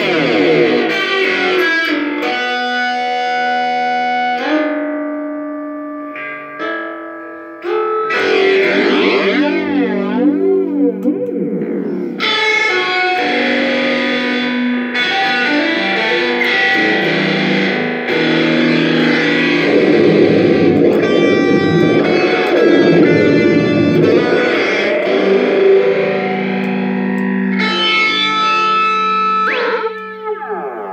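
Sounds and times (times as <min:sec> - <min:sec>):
electric guitar chords with flanger: 0:00.0 - 0:30.9.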